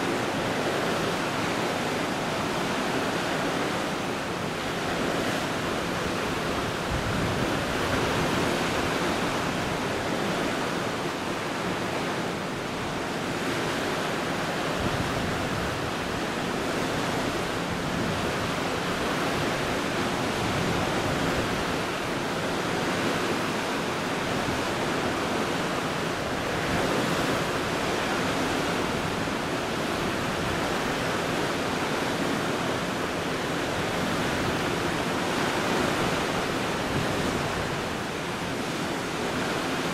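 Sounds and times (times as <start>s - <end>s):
sea waves rushing: 0.0s - 39.9s
wind: 0.0s - 39.9s.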